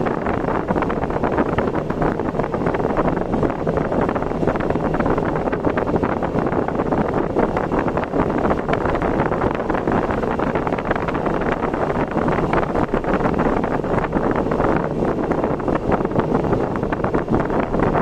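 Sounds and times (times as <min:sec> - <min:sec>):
wind and road noise: 0:00.0 - 0:18.0
wind buffeting microphone: 0:00.0 - 0:18.0.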